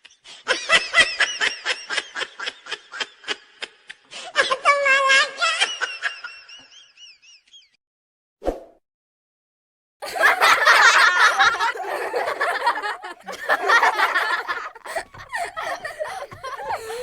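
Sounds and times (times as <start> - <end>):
laughter: 0.0 - 4.7, 5.4 - 7.8, 10.0 - 17.0.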